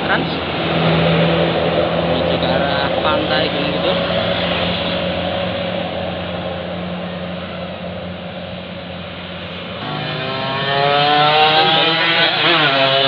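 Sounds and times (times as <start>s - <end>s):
bus diesel engine revving: 0.0s - 13.0s
traffic rumble: 0.0s - 13.0s.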